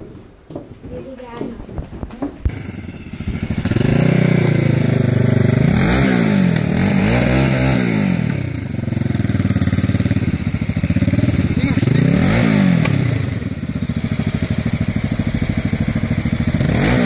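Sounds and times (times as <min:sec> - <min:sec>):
motorcycle engine revving: 0:02.0 - 0:17.0.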